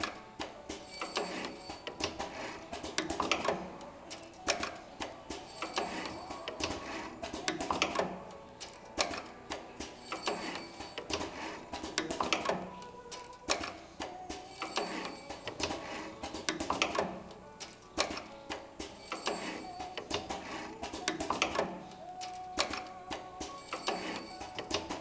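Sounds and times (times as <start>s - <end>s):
machine clicking and clacking: 0.0s - 25.0s.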